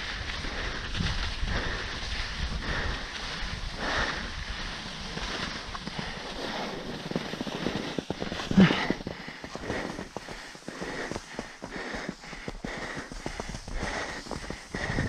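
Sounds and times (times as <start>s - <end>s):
skis scraping across snow: 0.0s - 15.0s
wind rumbling on microphone: 0.0s - 15.0s.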